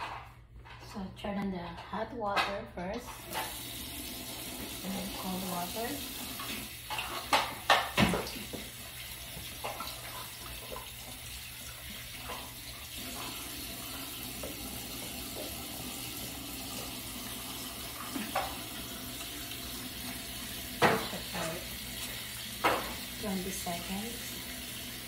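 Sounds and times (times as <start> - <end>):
faucet water running into basin: 3.1 - 25.0.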